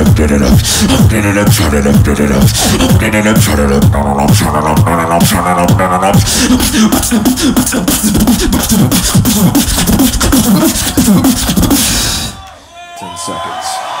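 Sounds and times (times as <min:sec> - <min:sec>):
person beatboxing: 0:00.0 - 0:12.4.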